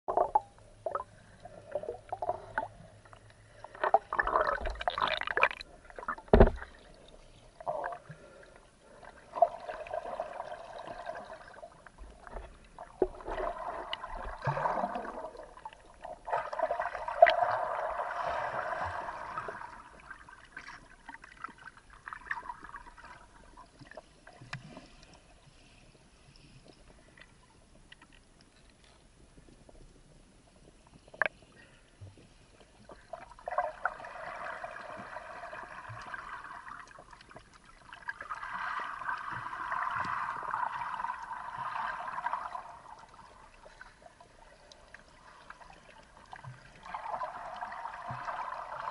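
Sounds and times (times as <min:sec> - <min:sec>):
water sloshing and gurgling: 0:00.1 - 0:48.9.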